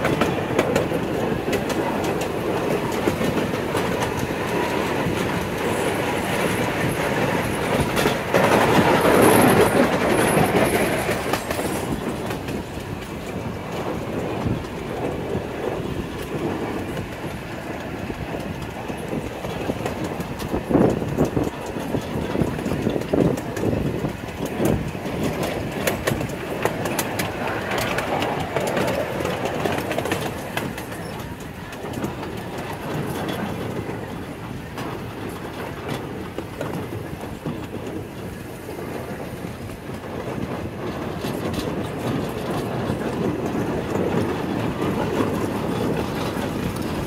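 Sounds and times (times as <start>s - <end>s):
miniature train wheels rumbling: 0.0s - 47.0s.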